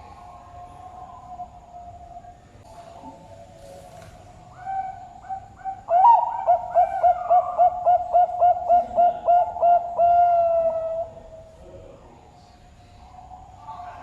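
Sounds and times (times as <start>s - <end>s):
dove cooing: 0.0s - 11.5s.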